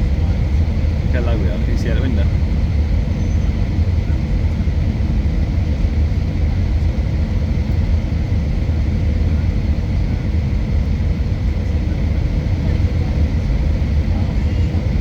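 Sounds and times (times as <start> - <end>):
aircraft engines and airflow rumble: 0.0 - 15.0.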